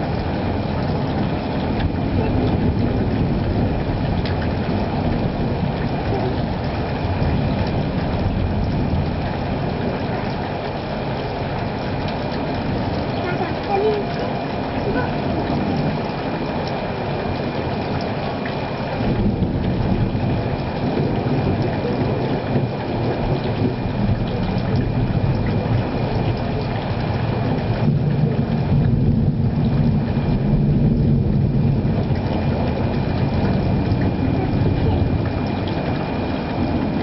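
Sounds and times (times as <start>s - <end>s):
thunder rumbling: 0.0s - 37.0s.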